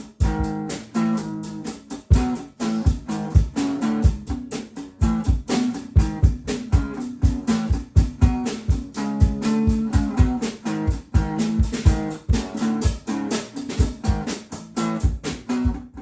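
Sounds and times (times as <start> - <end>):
drum beat: 0.0 - 16.0
guitar strumming chords: 0.0 - 16.0.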